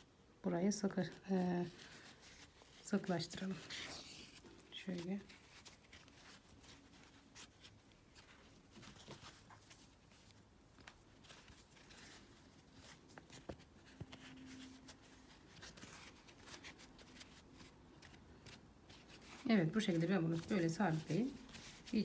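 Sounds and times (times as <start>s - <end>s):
yarn rustling through stitches: 0.0s - 22.0s.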